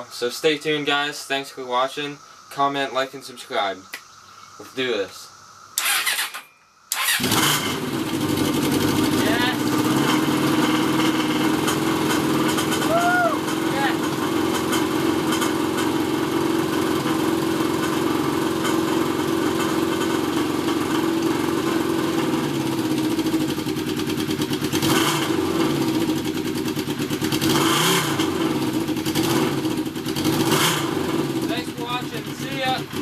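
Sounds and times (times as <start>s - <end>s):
motorcycle engine idling and revving: 5.8s - 33.0s.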